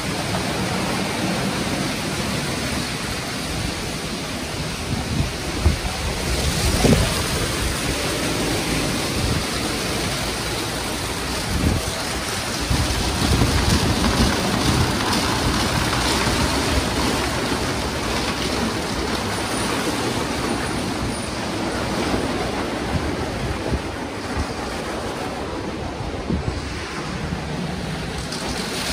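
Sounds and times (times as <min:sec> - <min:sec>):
car wash brushes rushing: 0:00.0 - 0:28.9.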